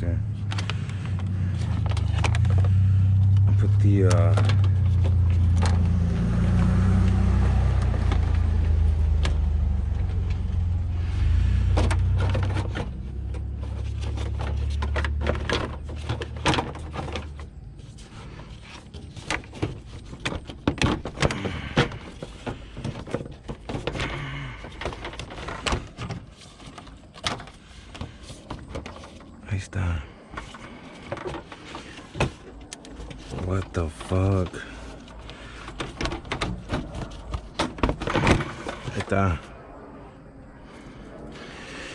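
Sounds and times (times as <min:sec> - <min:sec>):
car parts clicking and knocking: 0:00.0 - 0:10.9, 0:11.5 - 0:39.5
vehicle engine rumble: 0:00.0 - 0:41.9.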